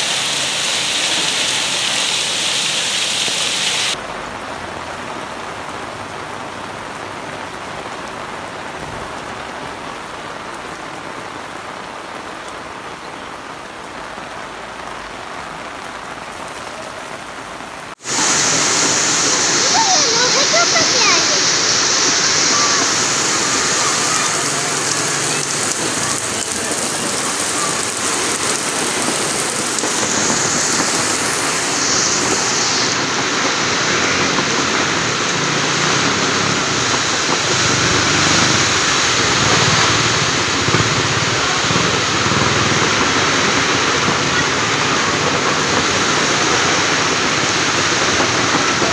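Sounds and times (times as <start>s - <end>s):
heavy rain on pavement: 0.0s - 48.9s.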